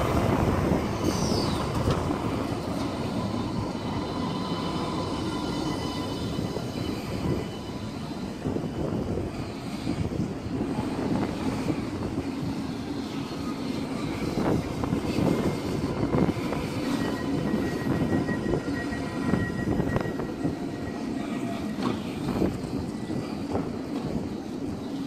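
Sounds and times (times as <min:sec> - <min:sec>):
tram rumbling: 0:00.0 - 0:25.0.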